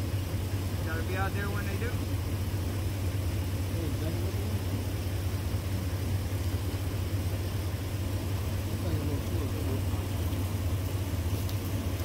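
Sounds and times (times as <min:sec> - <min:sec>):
idling engine hum: 0:00.0 - 0:12.0.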